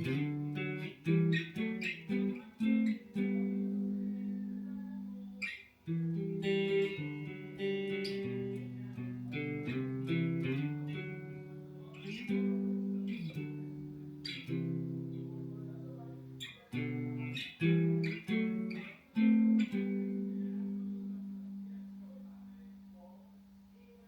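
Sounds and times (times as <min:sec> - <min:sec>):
guitar plucked notes and chords: 0:00.0 - 0:23.2.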